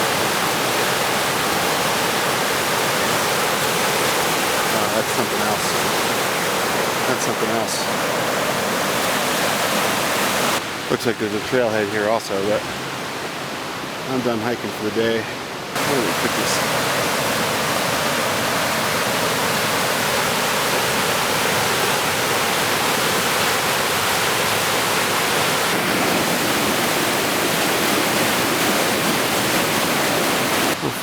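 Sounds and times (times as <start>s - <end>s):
fast-flowing water rushing: 0.0s - 31.0s.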